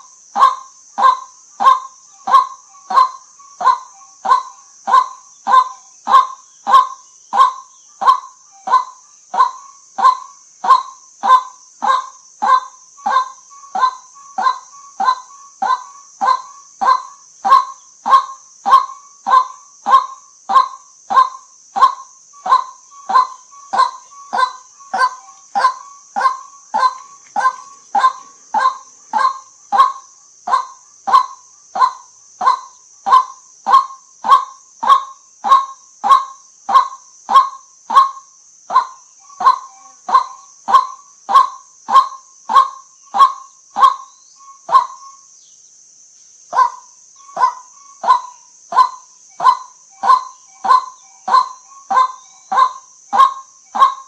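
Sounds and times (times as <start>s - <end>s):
steady high hiss: 0.0s - 54.0s
waterhen kwak call: 0.4s - 45.1s, 46.6s - 54.0s.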